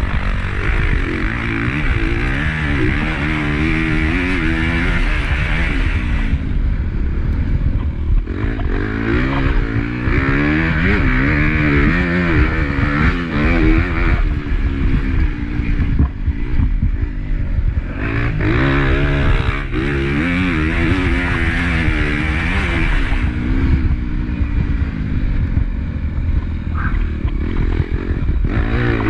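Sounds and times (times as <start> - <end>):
motocross engine revving: 0.0 - 29.0.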